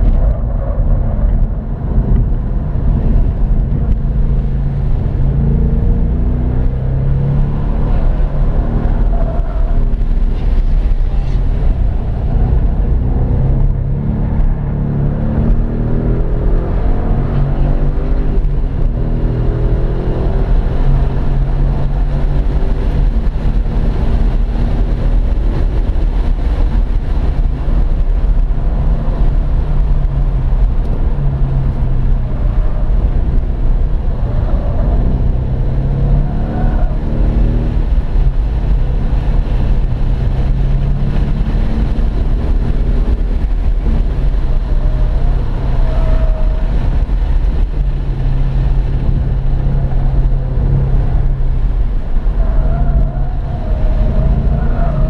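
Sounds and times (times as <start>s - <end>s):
car engine accelerating: 0.0s - 55.0s
road and wind rumble: 0.0s - 55.0s.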